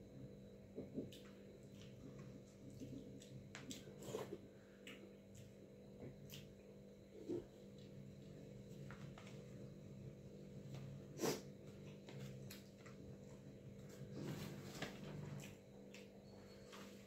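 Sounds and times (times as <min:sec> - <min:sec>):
steady low hum: 0:00.0 - 0:17.0
chewing: 0:01.0 - 0:09.4, 0:10.7 - 0:16.2.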